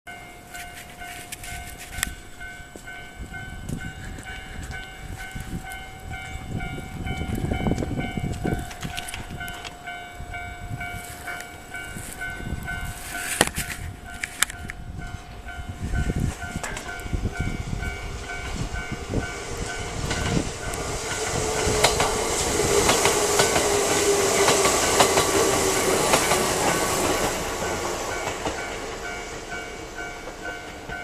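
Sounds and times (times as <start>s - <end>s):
level-crossing warning bell: 0.1s - 31.0s
train rumble: 0.2s - 31.0s.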